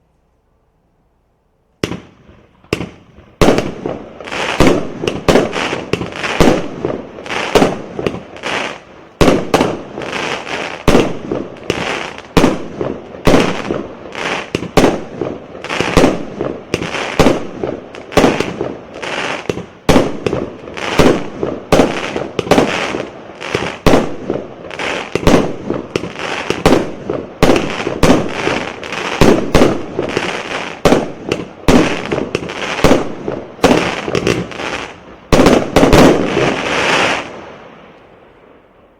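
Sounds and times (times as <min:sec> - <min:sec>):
fireworks firing: 0:01.8 - 0:38.0.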